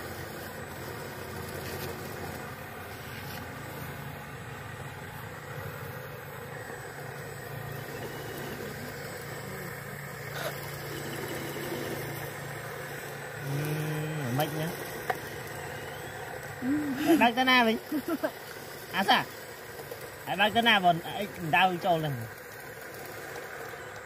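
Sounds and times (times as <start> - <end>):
model excavator motor humming: 0.0 - 24.0.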